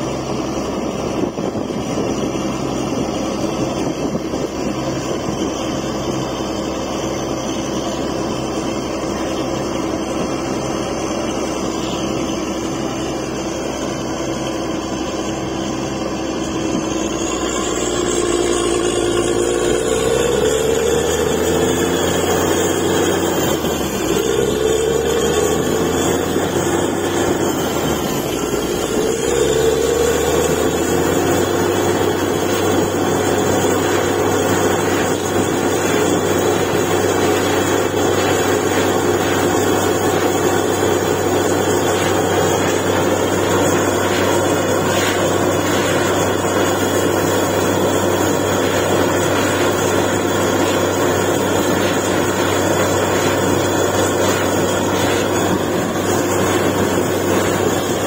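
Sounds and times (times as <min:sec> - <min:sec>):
drilling rig droning: 0:00.0 - 0:58.0
short rising whine: 0:00.0 - 0:58.0.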